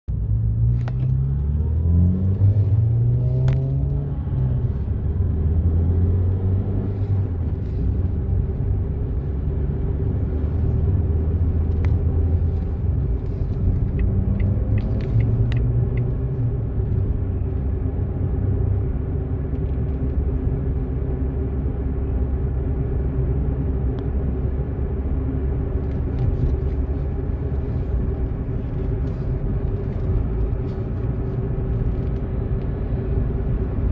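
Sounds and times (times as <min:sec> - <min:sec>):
car engine accelerating: 0:00.1 - 0:33.9
road rumble: 0:00.1 - 0:33.9.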